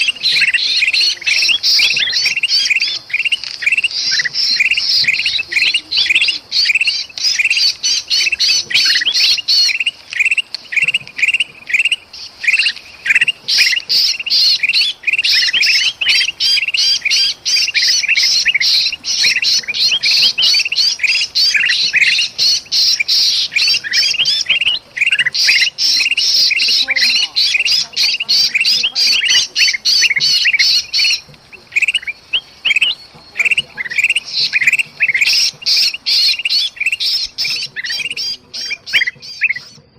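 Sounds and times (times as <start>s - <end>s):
bulbuls calling harshly: 0.0s - 39.9s
trapped bird distress calls: 0.0s - 39.9s.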